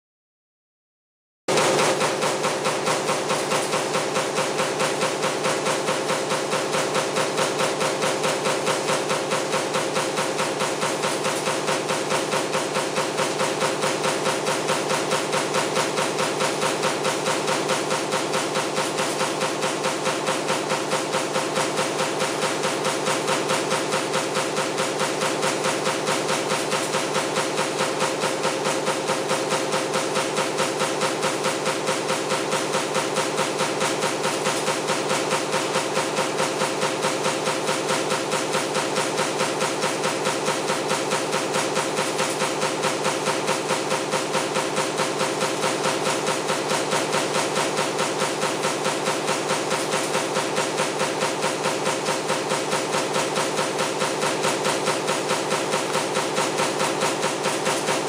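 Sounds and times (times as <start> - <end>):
power press stamping: 1.5 - 58.0.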